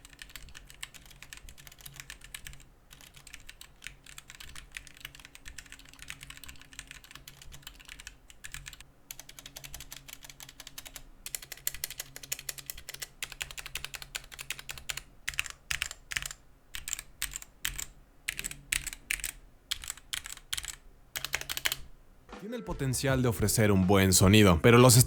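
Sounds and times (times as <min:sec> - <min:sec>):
mechanical keyboard typing: 0:00.0 - 0:21.9.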